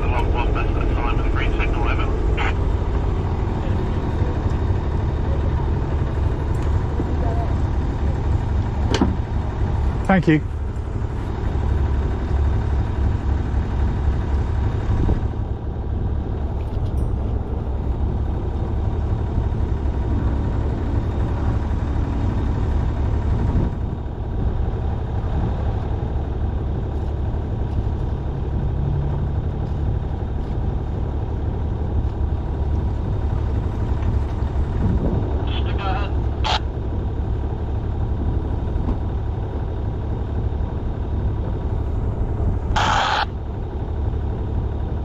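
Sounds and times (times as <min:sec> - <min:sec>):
boat engine low rumble: 0:00.0 - 0:45.0.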